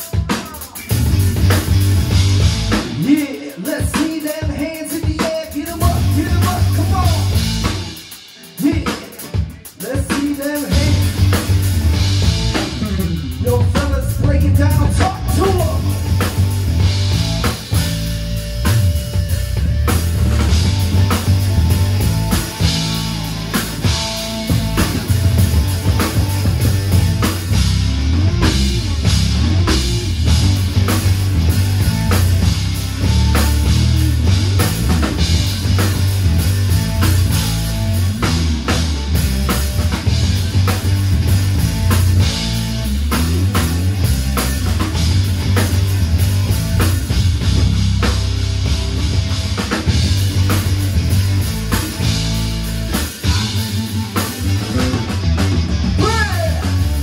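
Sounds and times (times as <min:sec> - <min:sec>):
drum kit beat: 0:00.0 - 0:57.0
guitar: 0:00.0 - 0:57.0
heavy bass: 0:00.0 - 0:57.0
keyboards: 0:00.0 - 0:57.0.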